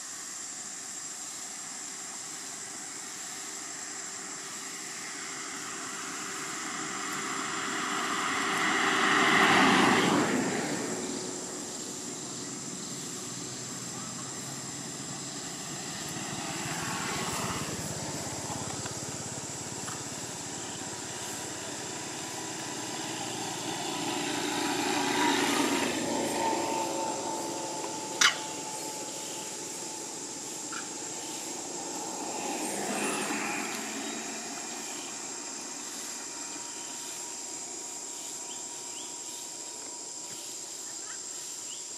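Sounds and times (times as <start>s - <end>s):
distant engine: 2.1s - 41.8s.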